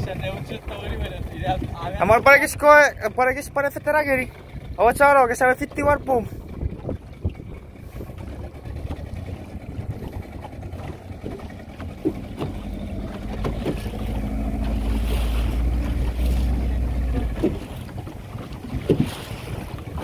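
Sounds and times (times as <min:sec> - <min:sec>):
wind on microphone: 0:00.0 - 0:02.0, 0:05.6 - 0:20.0
outboard motor running: 0:00.0 - 0:20.0.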